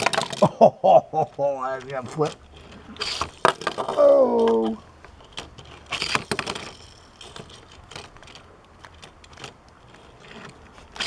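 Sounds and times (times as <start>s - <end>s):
toy car rattling on plastic track: 0.0s - 0.6s, 1.4s - 11.0s.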